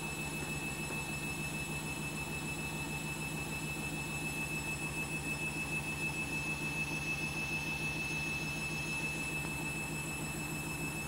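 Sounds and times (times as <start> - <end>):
thin steady high tone: 0.0 - 11.0
washing machine spinning: 0.0 - 11.0.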